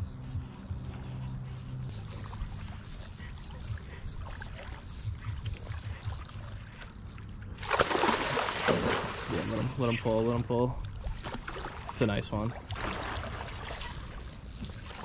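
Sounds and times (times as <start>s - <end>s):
water swishing around waders: 0.0s - 15.0s.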